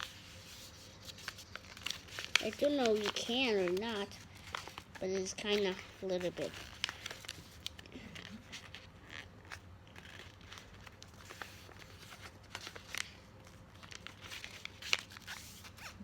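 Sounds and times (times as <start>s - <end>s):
paper being folded: 0.0s - 16.0s.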